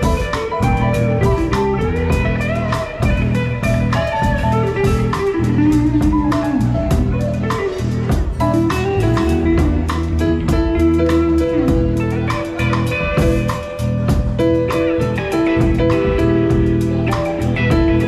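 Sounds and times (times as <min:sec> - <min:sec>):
live band playing guitar music: 0:00.0 - 0:18.0.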